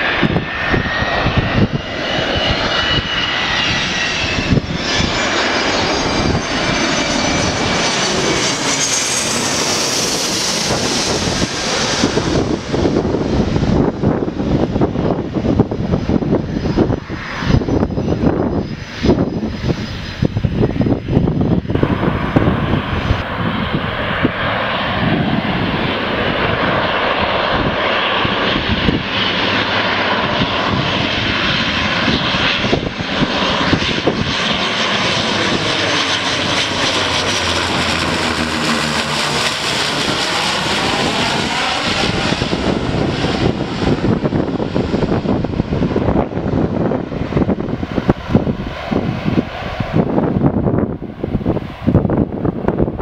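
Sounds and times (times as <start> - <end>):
propeller plane flying overhead: 0.0 - 53.0
wind on microphone: 0.0 - 53.0.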